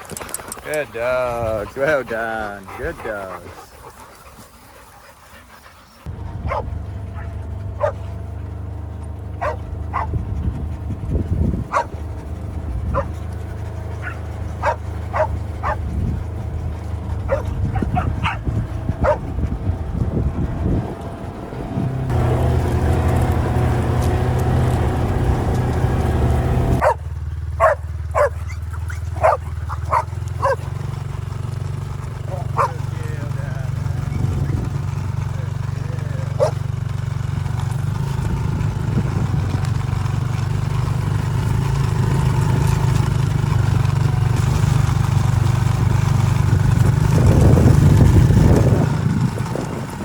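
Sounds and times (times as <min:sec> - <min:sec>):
vehicle engine running: 0:00.0 - 0:04.4, 0:05.1 - 0:50.0
dogs barking and yipping: 0:00.0 - 0:50.0.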